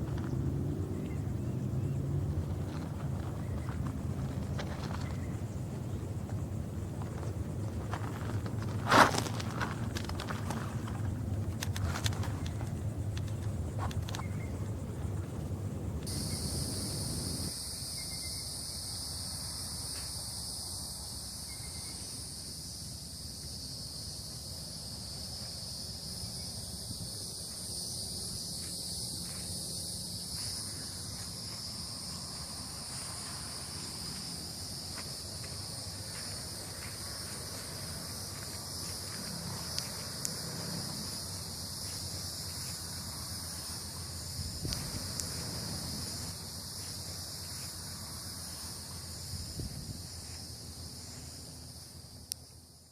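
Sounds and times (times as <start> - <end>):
insects buzzing: 0.0 - 52.9.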